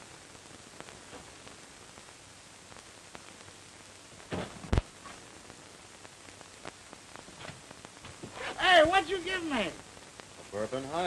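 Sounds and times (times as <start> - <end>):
faint crackles: 0.0 - 11.0
film soundtrack hiss: 0.0 - 11.0.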